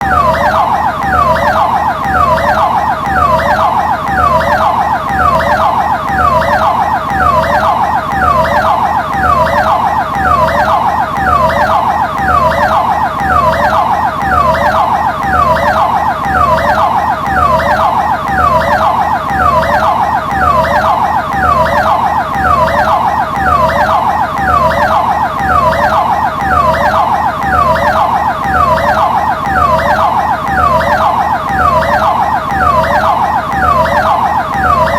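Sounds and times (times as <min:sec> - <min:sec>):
ambulance siren: 0:00.0 - 0:34.9.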